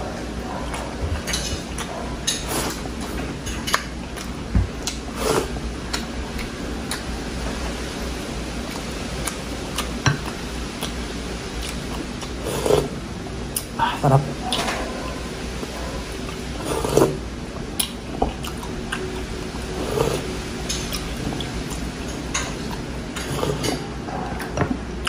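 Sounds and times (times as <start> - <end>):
person chewing food: 0.0 - 7.5, 8.1 - 13.8, 14.5 - 25.0
low background hum: 0.0 - 25.0.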